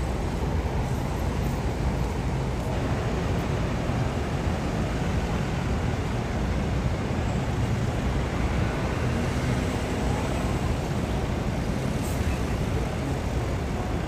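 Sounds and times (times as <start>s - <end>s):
outdoor ambient noise: 0.0s - 14.0s.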